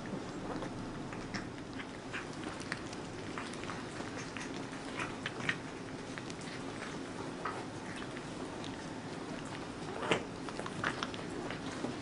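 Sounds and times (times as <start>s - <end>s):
cats chewing with wet smacking: 0.0s - 12.0s.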